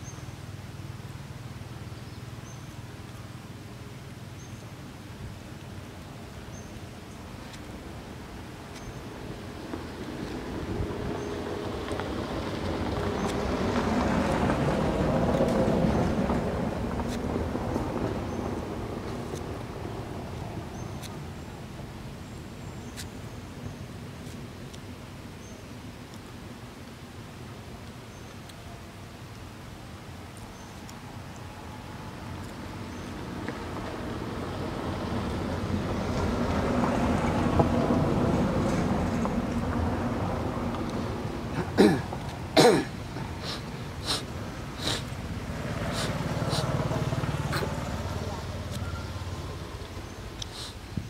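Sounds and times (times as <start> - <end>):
outdoor background rumble: 0.0 - 51.0.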